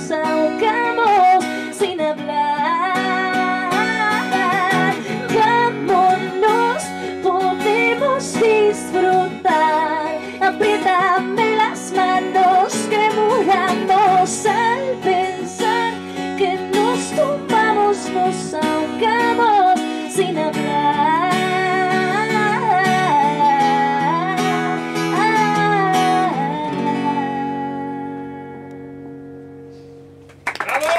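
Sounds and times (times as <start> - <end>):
woman singing: 0.0 - 28.7
strummed acoustic guitar: 0.0 - 30.3.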